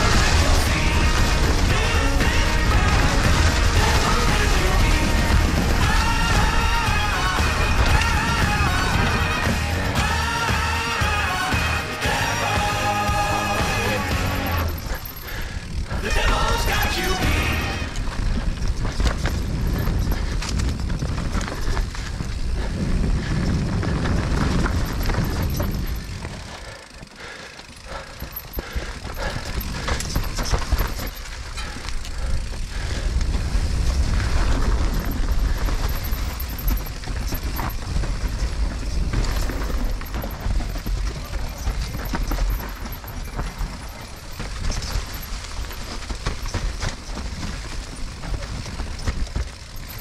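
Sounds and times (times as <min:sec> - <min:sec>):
bike knocks and rattles: 0:00.0 - 0:11.0, 0:12.3 - 0:50.0
wind noise: 0:00.0 - 0:11.0, 0:12.1 - 0:27.0, 0:27.6 - 0:50.0
bike tyres on dirt: 0:00.0 - 0:50.0.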